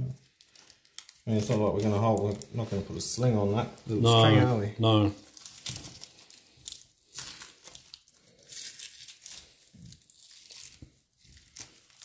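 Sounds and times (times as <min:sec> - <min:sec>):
wrapping crinkling and tearing: 0:00.0 - 0:12.0.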